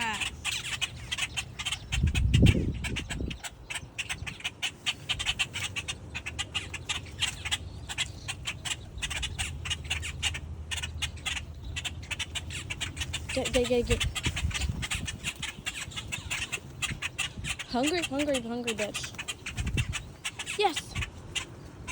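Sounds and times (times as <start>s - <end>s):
moorhens squawking and clucking: 0.0s - 21.9s.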